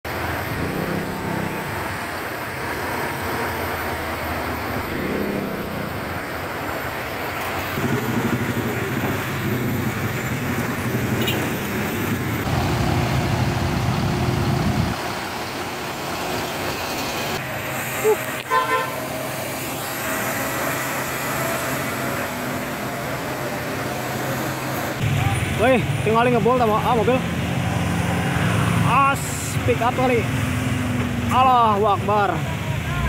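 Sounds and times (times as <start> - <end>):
traffic engines rumbling: 0.0 - 33.0.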